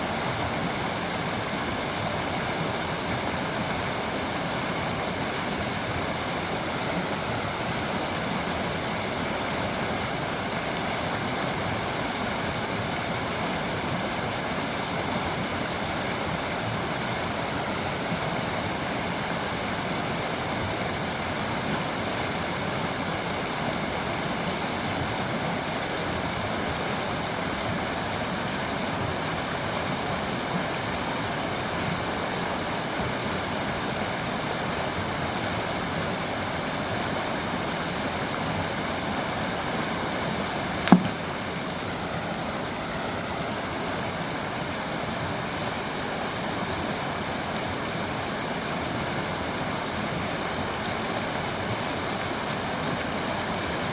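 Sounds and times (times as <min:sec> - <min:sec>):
creek water babbling over stones: 0:00.0 - 0:53.9.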